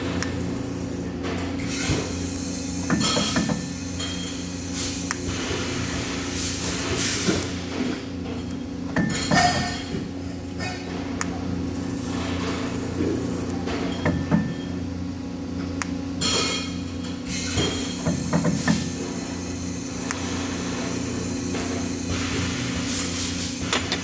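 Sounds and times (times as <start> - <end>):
machinery hum: 0.0 - 24.0.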